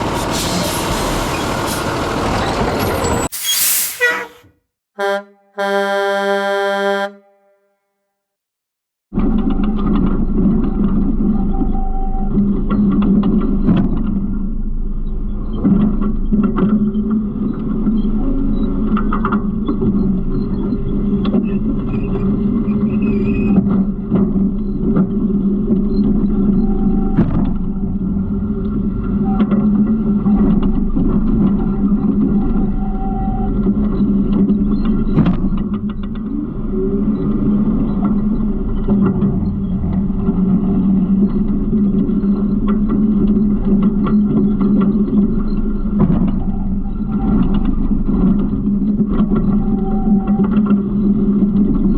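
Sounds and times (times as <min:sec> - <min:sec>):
garbage truck engine running: 0:00.0 - 0:04.0, 0:09.8 - 0:50.2.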